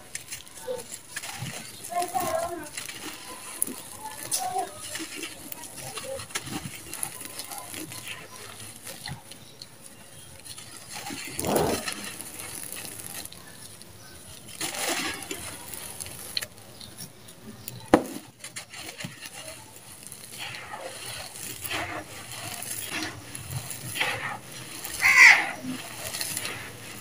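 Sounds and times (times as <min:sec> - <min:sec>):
gritty sand pouring: 0:00.0 - 0:17.0, 0:18.0 - 0:27.0.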